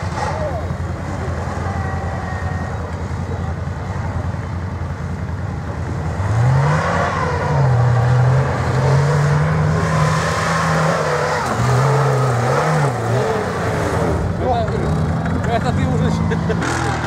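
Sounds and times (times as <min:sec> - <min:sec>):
vehicle engine revving: 0:02.8 - 0:17.0.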